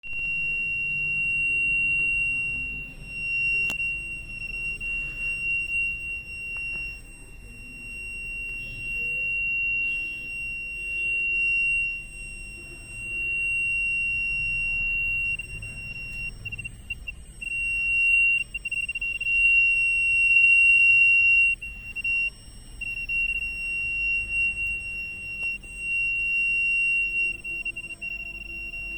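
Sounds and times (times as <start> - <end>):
high-pitched feedback squeal: 0.0 - 28.9.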